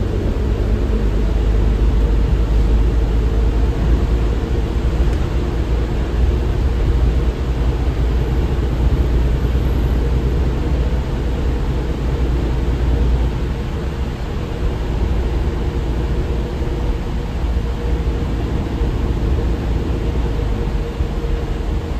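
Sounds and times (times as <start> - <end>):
bus engine drone: 0.0 - 21.9
road noise: 0.0 - 21.9.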